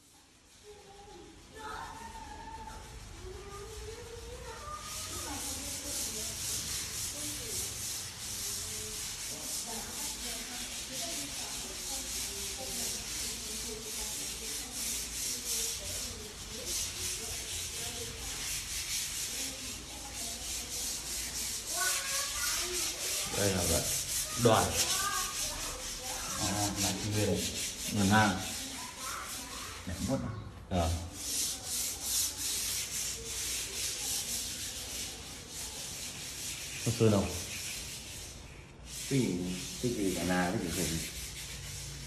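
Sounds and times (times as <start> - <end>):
hand sanding strokes: 0.1 - 42.0.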